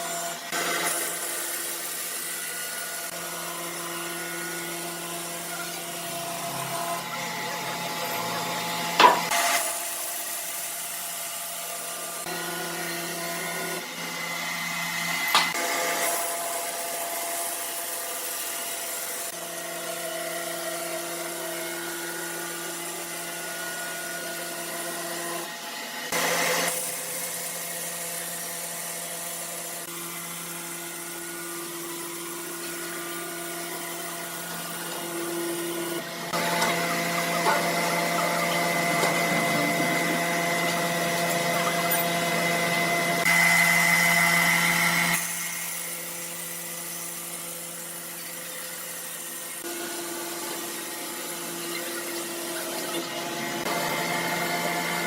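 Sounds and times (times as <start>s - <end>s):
saw cutting through wood: 0.0s - 55.0s
sawmill machinery humming: 0.0s - 55.0s.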